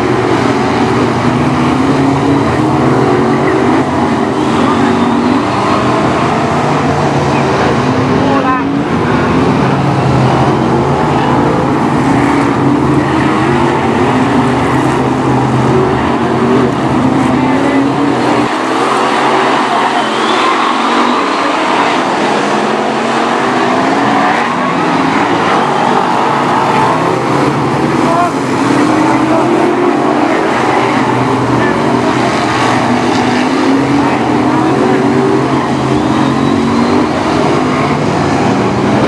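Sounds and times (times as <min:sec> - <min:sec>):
racing car engines passing: 0:00.0 - 0:39.0.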